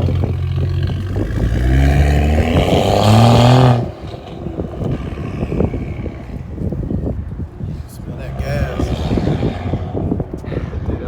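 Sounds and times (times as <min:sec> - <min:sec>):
car engine revving: 0:00.0 - 0:11.0
exhaust crackles and pops: 0:00.0 - 0:11.0.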